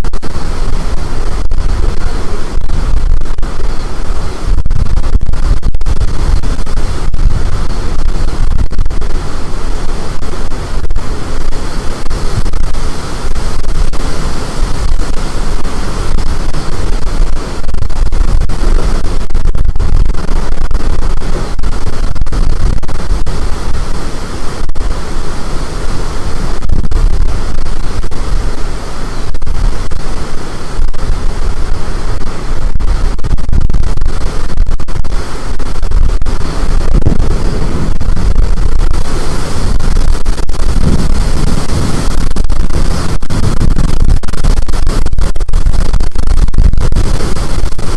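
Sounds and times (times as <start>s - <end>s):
wind blowing across microphone: 0.0s - 47.9s.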